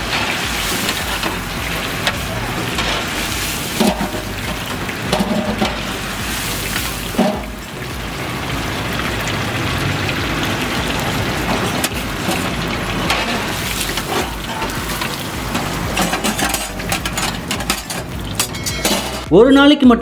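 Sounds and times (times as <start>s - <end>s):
chicken deep-frying in oil: 0.0s - 19.3s.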